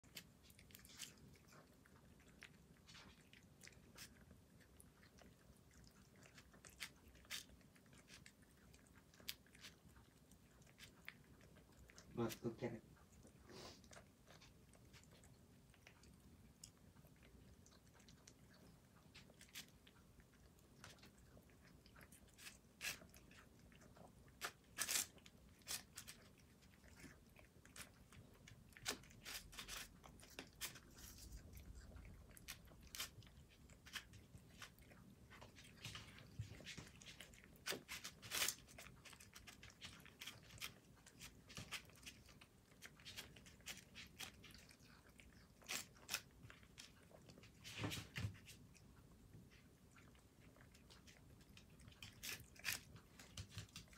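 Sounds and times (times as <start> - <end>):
cats crunching dried fish: 0.0 - 53.9.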